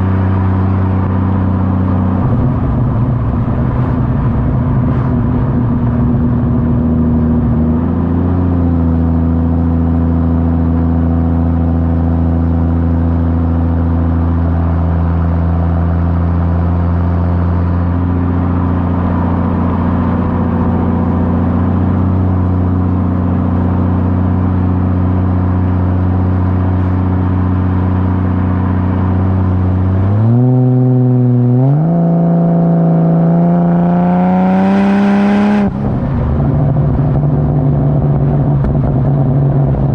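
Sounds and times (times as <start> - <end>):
car engine droning and accelerating: 0.0 - 39.9.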